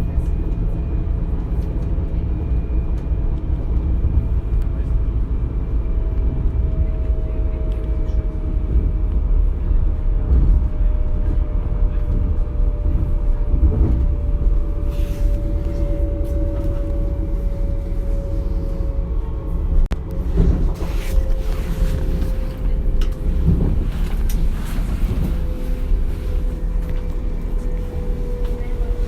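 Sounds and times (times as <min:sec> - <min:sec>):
train running rumble with whine: 0:00.0 - 0:29.0.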